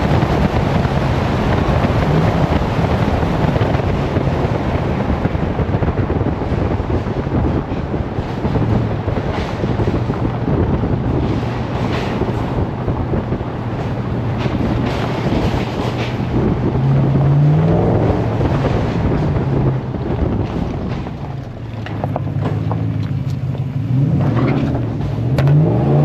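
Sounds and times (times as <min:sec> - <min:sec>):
off-road vehicle engine: 0:00.0 - 0:26.0
wind buffeting microphone: 0:00.0 - 0:26.0.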